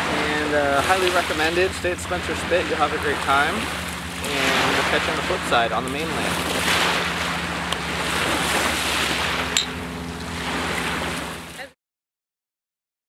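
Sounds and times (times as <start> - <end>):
small waves lapping on gravel: 0.8 - 11.5.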